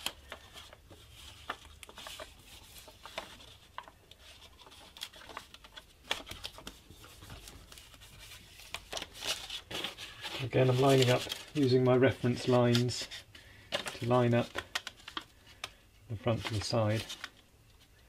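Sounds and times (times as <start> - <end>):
paper rustling: 0.0 - 17.9.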